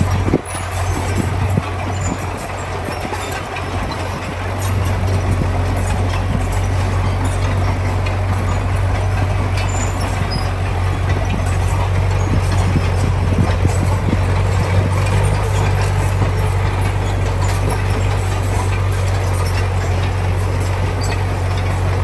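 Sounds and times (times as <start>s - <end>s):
heavy diesel machinery engine drone: 0.0s - 22.0s
metal clanks and rattles: 0.0s - 22.0s.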